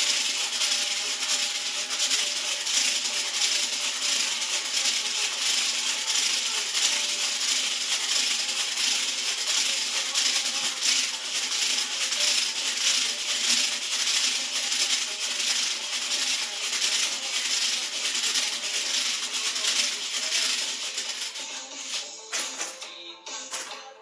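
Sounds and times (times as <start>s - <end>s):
hula hoop links rattling: 0.0s - 22.9s.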